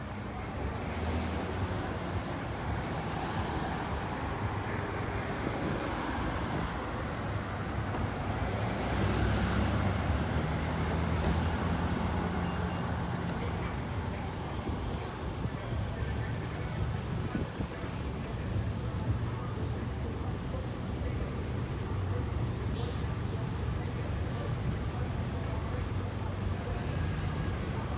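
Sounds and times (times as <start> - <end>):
diesel bus engine droning: 0.0 - 27.9
road traffic noise: 0.0 - 27.9.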